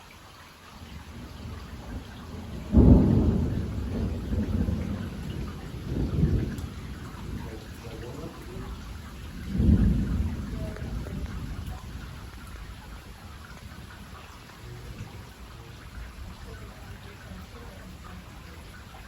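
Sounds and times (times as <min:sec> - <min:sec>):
heavy rain falling: 0:00.0 - 0:19.0
thunder rumbling: 0:00.8 - 0:19.0.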